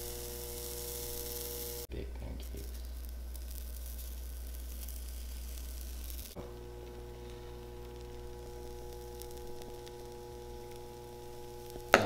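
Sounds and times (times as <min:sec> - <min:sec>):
batter crackling on griddle: 0:00.0 - 0:12.0
low electrical hum: 0:00.0 - 0:12.0.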